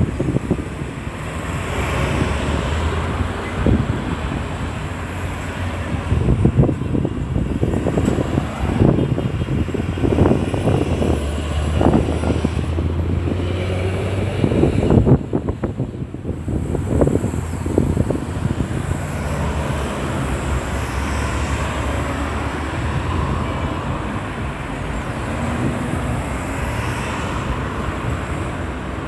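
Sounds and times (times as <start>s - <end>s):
cars passing: 0.0s - 29.0s
wind buffeting microphone: 0.0s - 29.0s.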